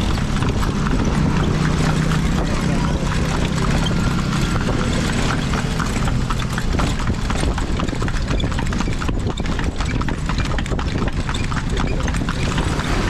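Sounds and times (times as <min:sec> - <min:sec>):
horse hooves clip-clopping: 0:00.0 - 0:13.0.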